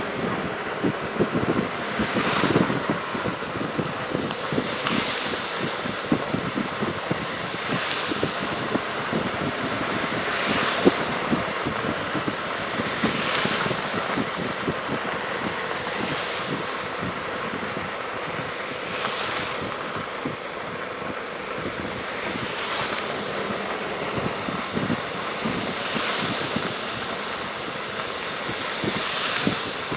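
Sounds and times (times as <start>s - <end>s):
city traffic on wet street: 0.0s - 29.9s
passing car hiss: 0.0s - 29.9s.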